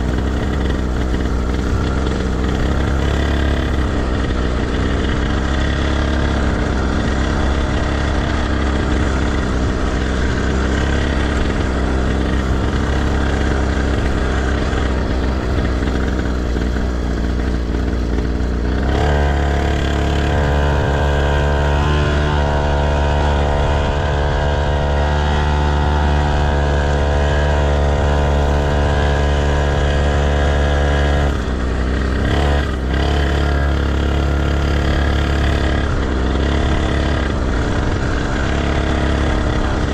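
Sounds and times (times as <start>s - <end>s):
heavy low rumble: 0.0s - 39.9s
motocross bike engine running: 0.0s - 39.9s.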